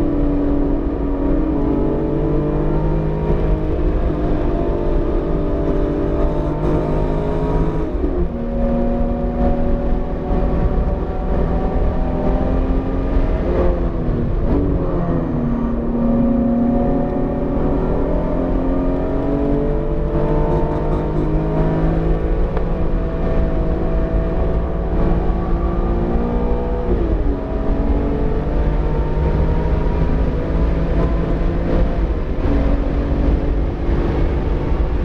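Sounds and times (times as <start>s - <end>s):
car engine running hard: 0.0s - 35.0s.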